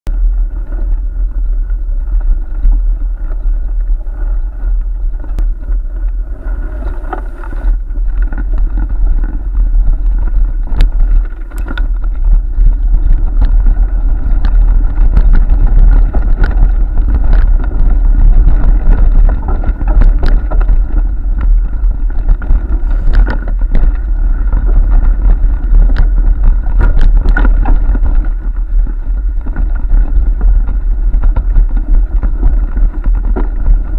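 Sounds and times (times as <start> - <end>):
camera rumbling and rattling: 0.1 - 33.9
wind buffeting microphone: 0.1 - 33.9.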